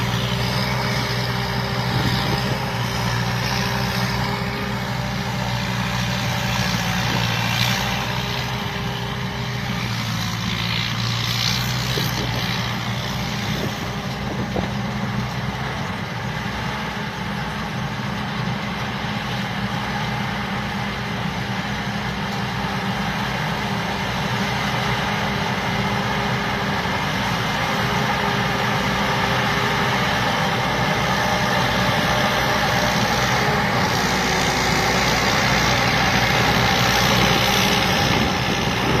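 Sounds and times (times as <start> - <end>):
combine harvester engine running: 0.0 - 39.0.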